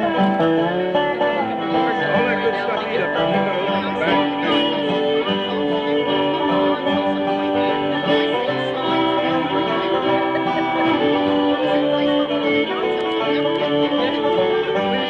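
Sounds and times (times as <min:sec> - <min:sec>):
bluegrass band playing: 0:00.0 - 0:15.0.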